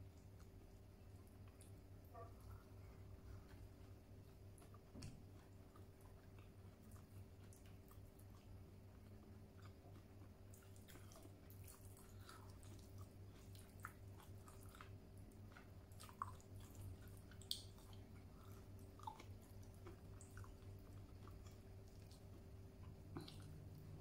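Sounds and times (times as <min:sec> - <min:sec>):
low steady hum: 0:00.0 - 0:24.0
person chewing soft food: 0:00.0 - 0:24.0.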